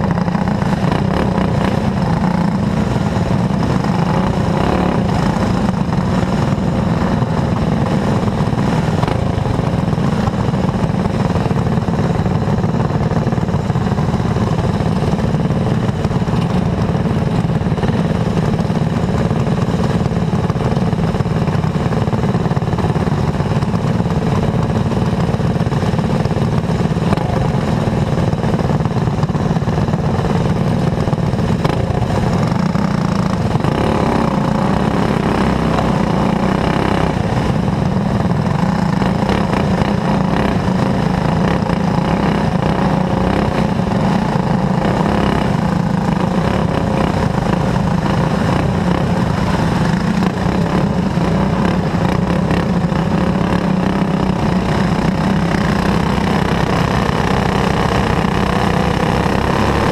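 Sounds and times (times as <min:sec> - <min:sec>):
kart engine running steadily: 0:00.0 - 0:59.9.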